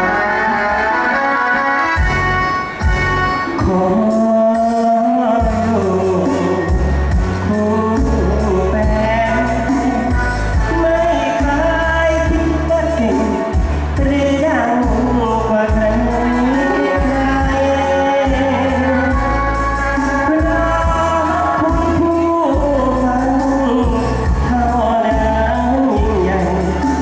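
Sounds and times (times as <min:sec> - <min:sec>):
man singing into a microphone: 0:00.0 - 0:02.0, 0:03.3 - 0:27.0
amplified band backing: 0:00.0 - 0:27.0.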